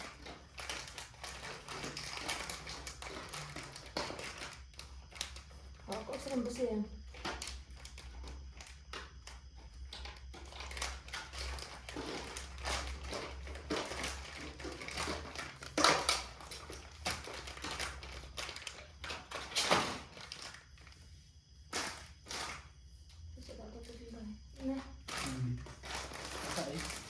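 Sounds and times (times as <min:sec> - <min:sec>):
packaging rustling and crackling: 0:00.0 - 0:21.0, 0:21.7 - 0:22.7, 0:25.0 - 0:27.0.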